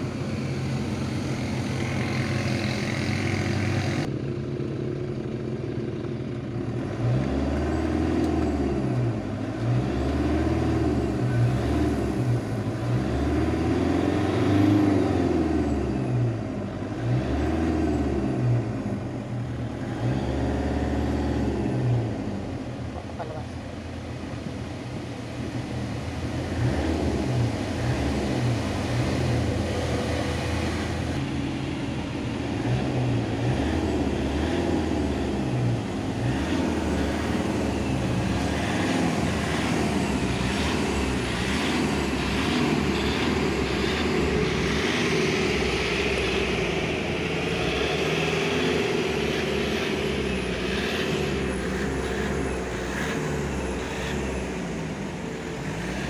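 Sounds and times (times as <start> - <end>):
van engine revving: 0.0 - 56.0.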